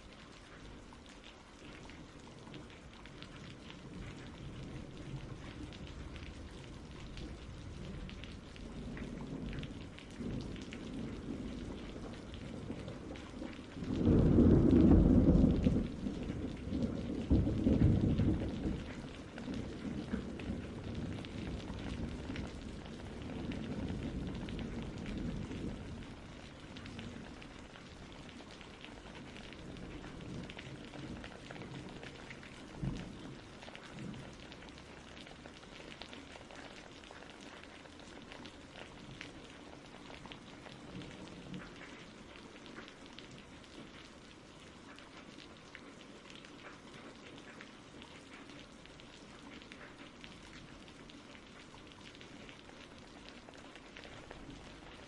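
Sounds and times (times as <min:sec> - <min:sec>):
rain pattering: 0:00.0 - 0:55.0
low rumble of thunder: 0:01.8 - 0:44.3, 0:48.1 - 0:55.0.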